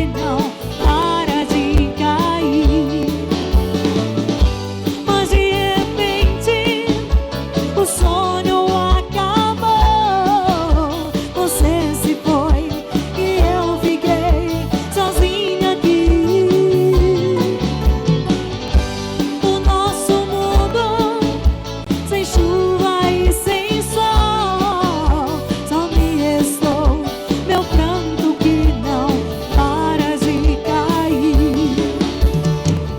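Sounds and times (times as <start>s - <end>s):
live band playing upbeat song: 0.0s - 32.9s.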